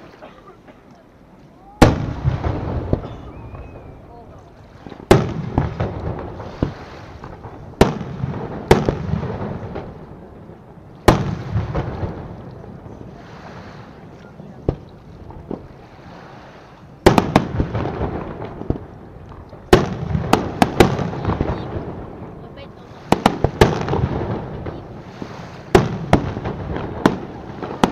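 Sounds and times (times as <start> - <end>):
firework bangs with echoing rumble: 1.8 - 4.0, 4.8 - 13.2, 14.6 - 16.2, 17.0 - 27.9.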